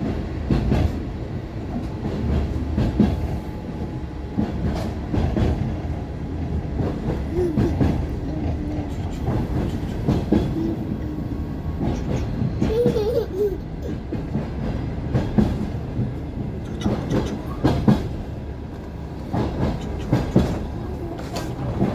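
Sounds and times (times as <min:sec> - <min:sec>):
low train rumble: 0:00.0 - 0:21.9
train wheels clattering: 0:00.0 - 0:21.9.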